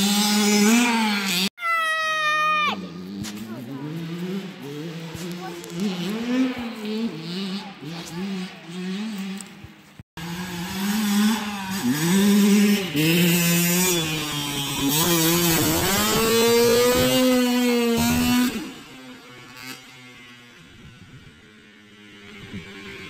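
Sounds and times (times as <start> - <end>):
dirt bike engine revving: 0.0 - 1.5, 2.1 - 23.0.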